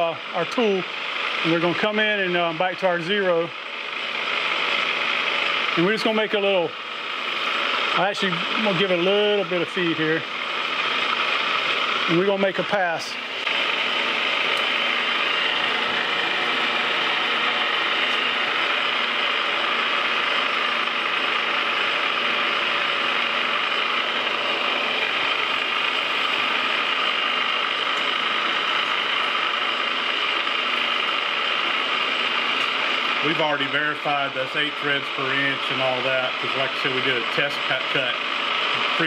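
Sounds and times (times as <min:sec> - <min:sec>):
metal lathe whirring: 0:00.0 - 0:39.0.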